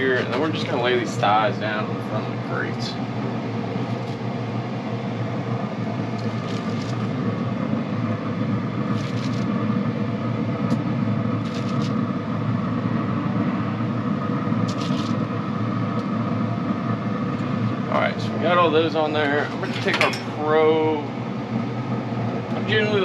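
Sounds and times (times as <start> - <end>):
grill fan humming: 0.0 - 23.0.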